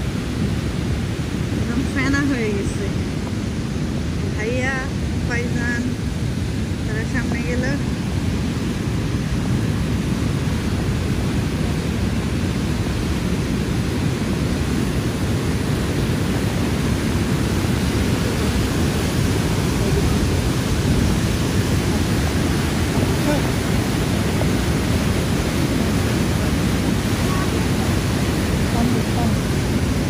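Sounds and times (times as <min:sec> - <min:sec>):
river rapids roaring: 0:00.0 - 0:30.0.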